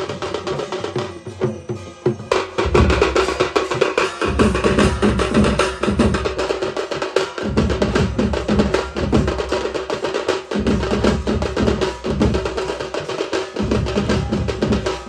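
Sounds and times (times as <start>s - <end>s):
drum band playing fast rhythm: 0.0s - 15.0s.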